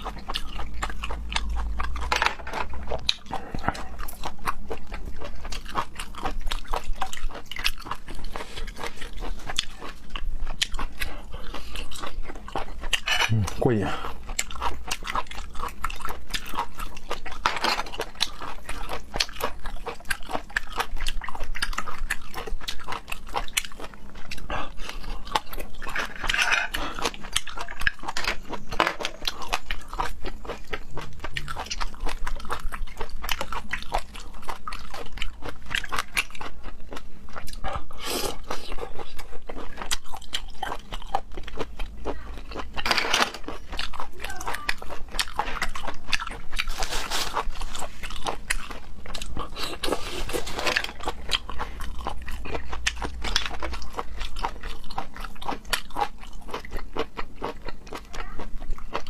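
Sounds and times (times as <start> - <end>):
chewing with wet mouth clicks: 0.0 - 46.8, 47.4 - 59.0.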